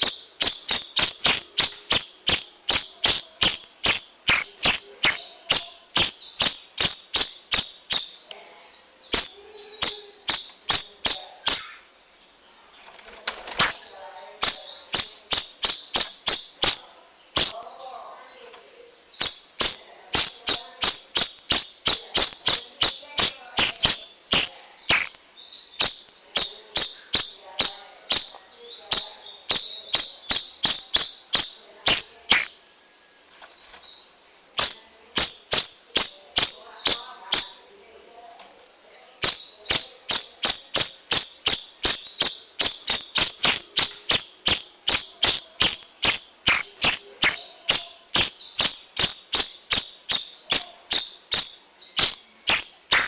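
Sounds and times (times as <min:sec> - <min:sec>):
songbird chirping: 0:00.0 - 0:53.0.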